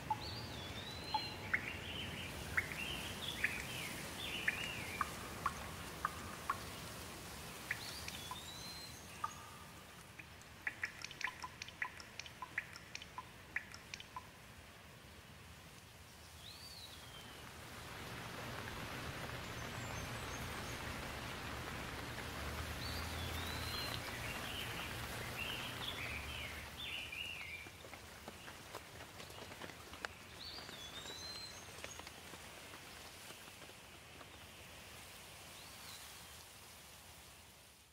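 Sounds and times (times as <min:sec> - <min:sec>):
birds chirping: 0:00.0 - 0:14.4, 0:16.3 - 0:32.3
rain falling on leaves: 0:00.0 - 0:37.9.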